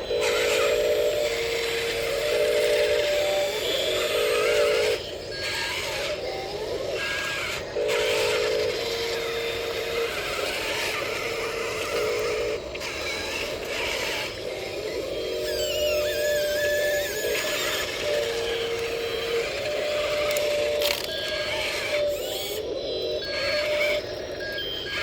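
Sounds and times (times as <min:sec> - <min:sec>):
electric motors whining: 0:00.0 - 0:25.0.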